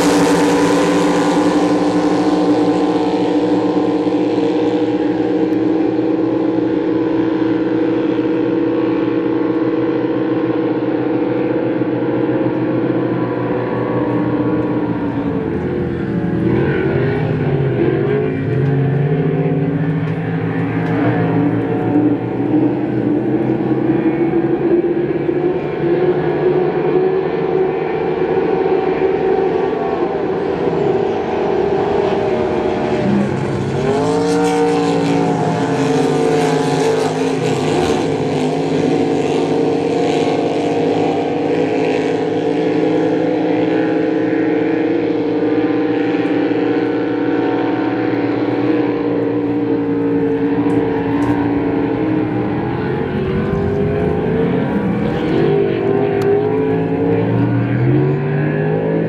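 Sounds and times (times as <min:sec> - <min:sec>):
race boat engines at high revs: 0:00.0 - 0:59.0.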